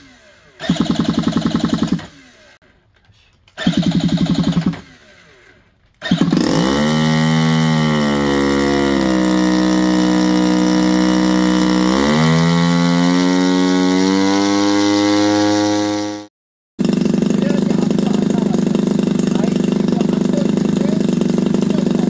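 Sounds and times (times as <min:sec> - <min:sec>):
drone engine running: 0:03.6 - 0:22.0.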